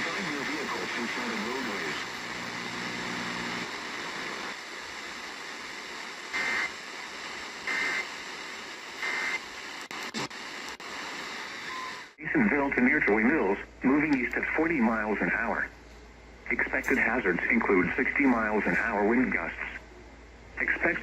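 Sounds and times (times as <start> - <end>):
radio static: 0.0 - 15.8, 16.4 - 19.9, 20.6 - 21.0.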